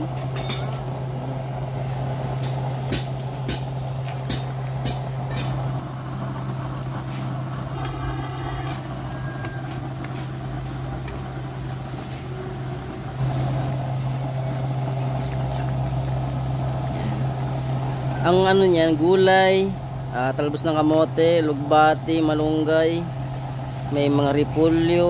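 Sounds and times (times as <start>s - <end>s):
gas burner humming: 0.0s - 25.0s
soup boiling: 0.1s - 20.2s.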